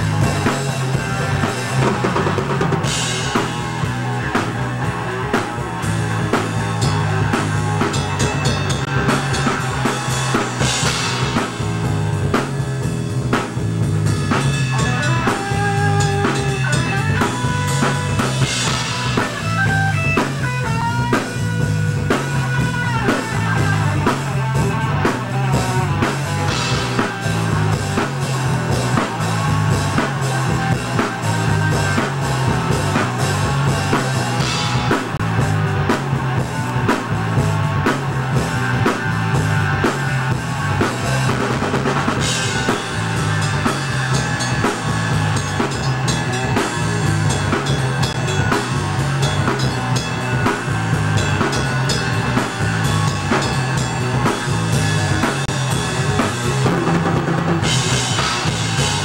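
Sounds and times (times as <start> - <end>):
drum kit beat: 0.0 - 59.0
rock band jamming: 0.0 - 59.0.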